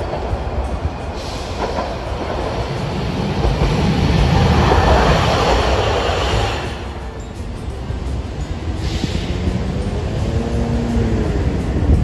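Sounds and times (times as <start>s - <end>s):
streetcar rolling on track: 0.0s - 12.0s.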